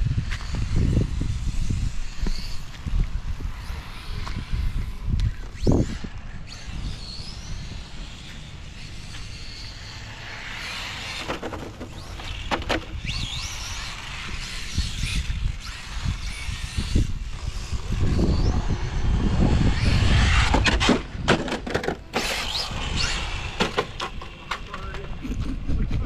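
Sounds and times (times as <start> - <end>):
rc car motor whine: 0.0 - 25.2.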